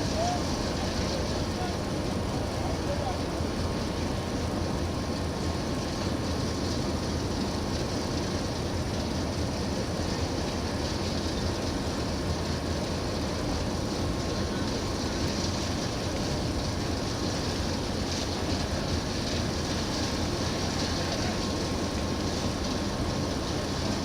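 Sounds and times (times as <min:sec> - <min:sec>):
hiss: 0:00.0 - 0:24.0
low rumble of vessel: 0:00.0 - 0:24.0.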